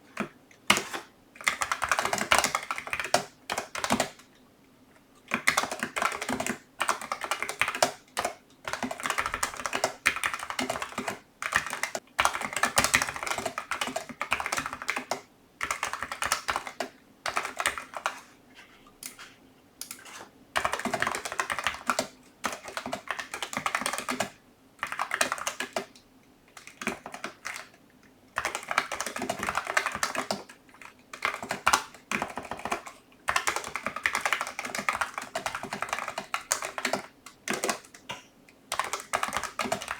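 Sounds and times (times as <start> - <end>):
mechanical keyboard typing: 0.2 - 4.2, 5.3 - 18.2, 20.6 - 26.0, 26.6 - 27.8, 28.4 - 38.1, 38.7 - 39.9.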